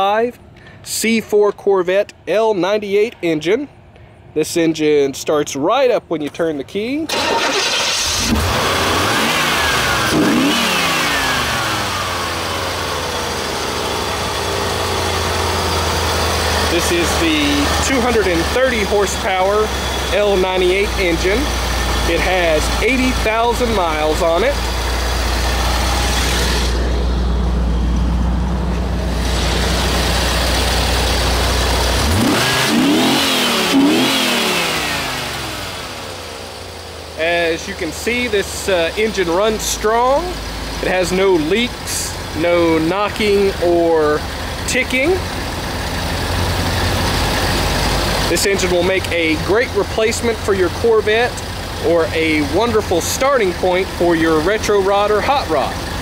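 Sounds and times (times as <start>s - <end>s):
car engine starting: 7.0s - 56.0s
car engine idling: 7.1s - 56.0s
car engine revving: 7.1s - 56.0s.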